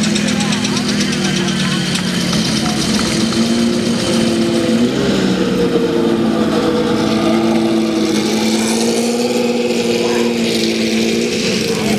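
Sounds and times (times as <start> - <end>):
race car engine idling: 0.0 - 11.9.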